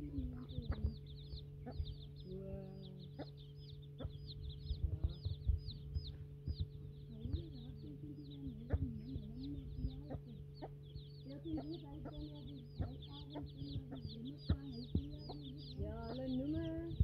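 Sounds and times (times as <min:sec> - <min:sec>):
baby chicks peeping: 0:00.0 - 0:17.0
hen calling: 0:00.0 - 0:17.0.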